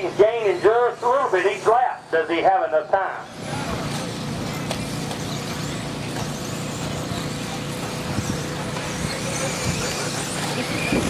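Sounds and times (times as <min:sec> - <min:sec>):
small motors and tyre noise: 0:00.0 - 0:11.0.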